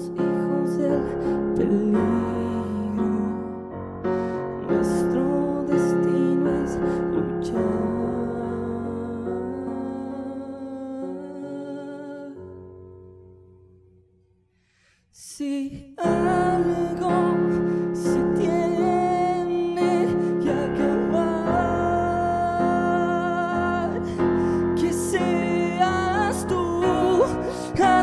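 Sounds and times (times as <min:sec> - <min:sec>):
person singing: 0:00.0 - 0:12.7, 0:15.2 - 0:28.0
keyboard chords: 0:00.0 - 0:14.2, 0:16.0 - 0:28.0.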